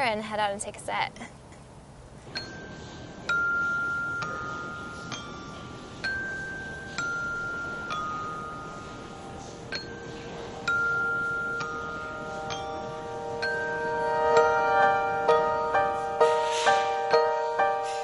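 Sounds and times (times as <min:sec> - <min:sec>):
bell-like chime melody: 0:02.3 - 0:18.0
low held tone: 0:02.3 - 0:18.0.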